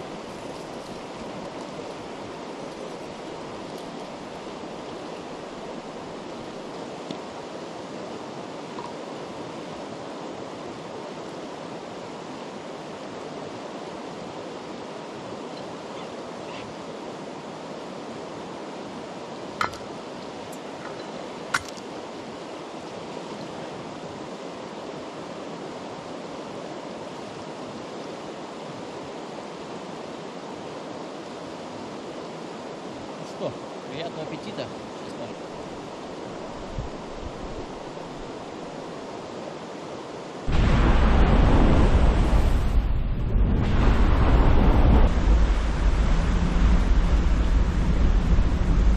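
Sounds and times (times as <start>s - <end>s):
river flowing over stones: 0.0s - 42.8s.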